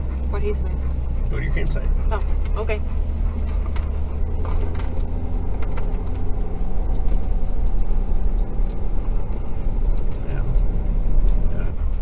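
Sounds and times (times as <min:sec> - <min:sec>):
pickup truck engine rumble: 0:00.0 - 0:12.0
road noise inside cab: 0:00.0 - 0:12.0.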